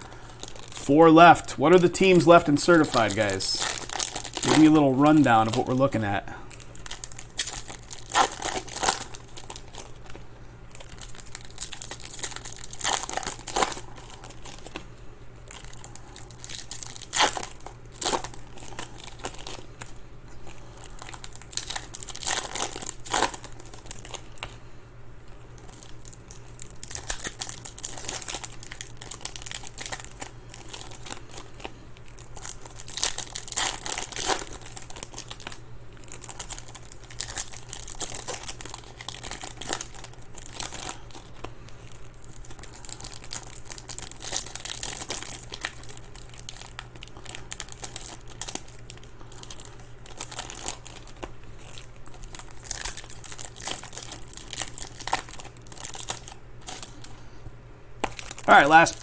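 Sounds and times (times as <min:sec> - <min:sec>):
foil wrappers tearing and crinkling: 0:00.0 - 0:24.6, 0:25.2 - 0:57.3, 0:58.0 - 0:59.0
low steady hum: 0:00.0 - 0:59.0.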